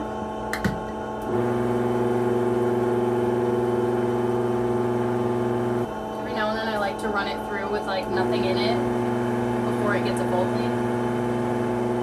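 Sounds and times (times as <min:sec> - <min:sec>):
grinder motor humming: 0:01.2 - 0:07.4, 0:08.0 - 0:12.0.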